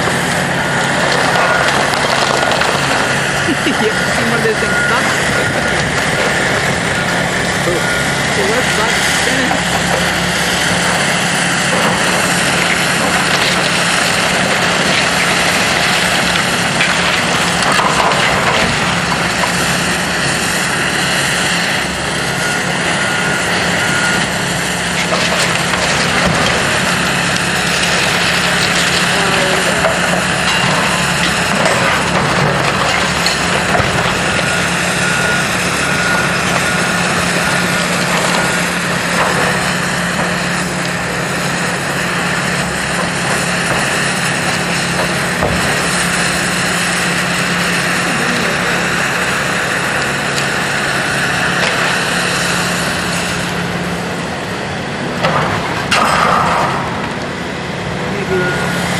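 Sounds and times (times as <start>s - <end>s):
debris cracking and knocking: 0.0s - 21.4s, 22.4s - 53.0s, 55.1s - 57.4s
diesel engine running: 0.0s - 58.9s.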